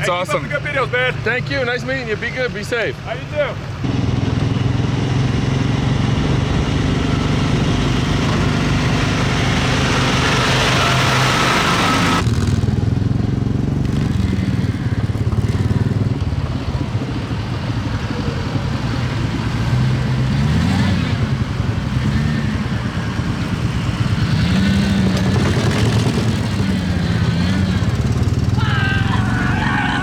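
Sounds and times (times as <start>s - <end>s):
motor vehicle engine running: 0.0s - 30.0s.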